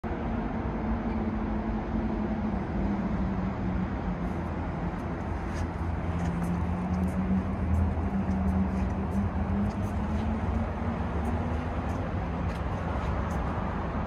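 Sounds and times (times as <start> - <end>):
faint engine hum: 0.0 - 14.0
road traffic rumble: 0.0 - 14.0.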